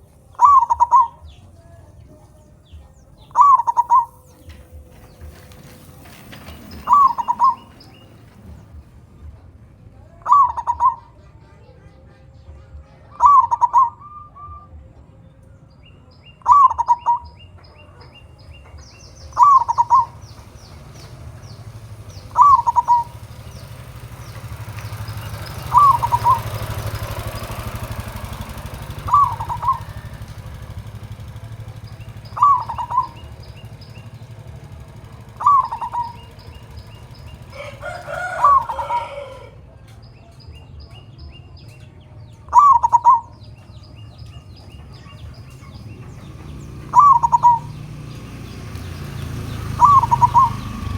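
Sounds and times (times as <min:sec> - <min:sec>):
dove cooing: 0:00.0 - 0:08.9, 0:10.1 - 0:11.4, 0:13.0 - 0:14.7, 0:16.4 - 0:39.9, 0:42.5 - 0:50.9
faint high chirps of small birds: 0:00.0 - 0:50.9.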